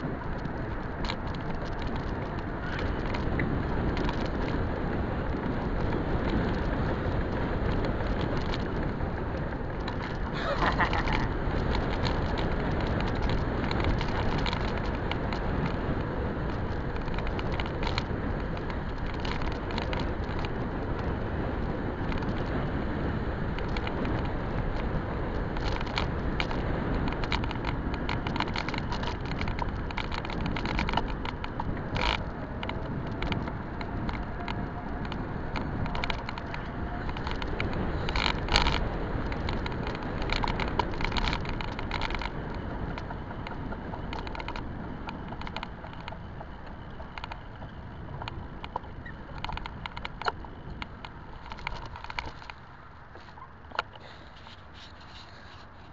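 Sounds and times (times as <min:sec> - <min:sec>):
bike clicks and rattles: 0:00.0 - 0:55.9
wind and tyre rumble: 0:00.0 - 0:55.9.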